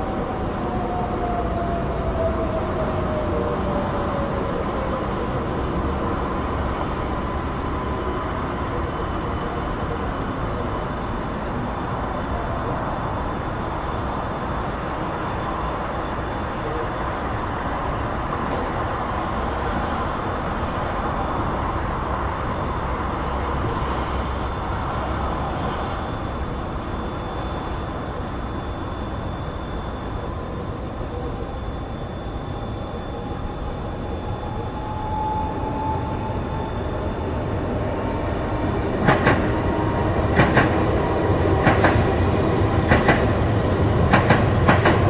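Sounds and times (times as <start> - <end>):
busy motorway traffic: 0.0 - 45.0.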